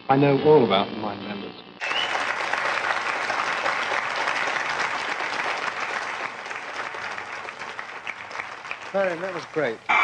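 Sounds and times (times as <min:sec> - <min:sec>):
audience applauding: 0:01.8 - 0:09.9.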